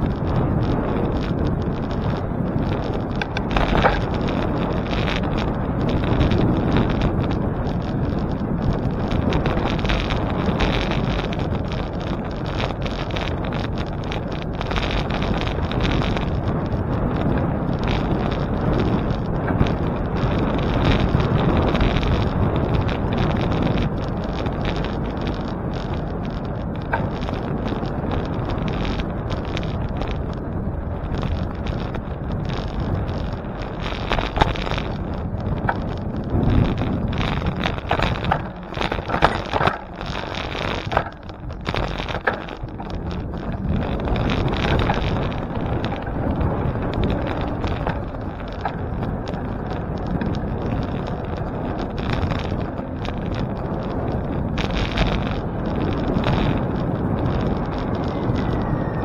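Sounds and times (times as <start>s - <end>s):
bicycle road noise: 0.0s - 59.0s
wind buffeting microphone: 0.0s - 59.0s.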